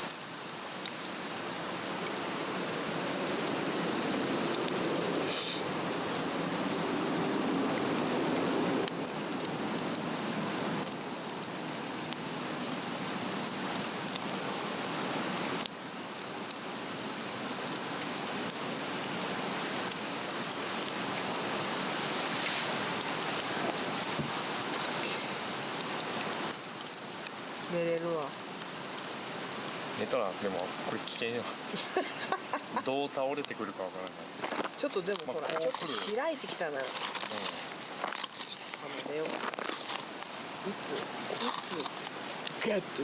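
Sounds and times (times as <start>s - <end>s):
fire crackling and popping: 0.0s - 43.0s
flame hissing: 0.0s - 43.0s.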